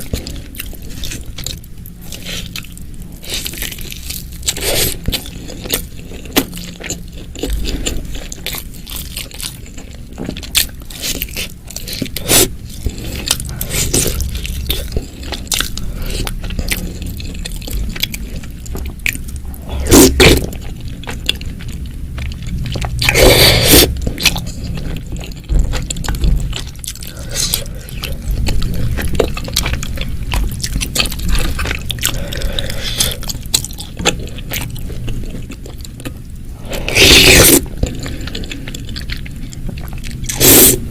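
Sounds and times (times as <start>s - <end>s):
chewing and crunching food: 0.0s - 40.9s.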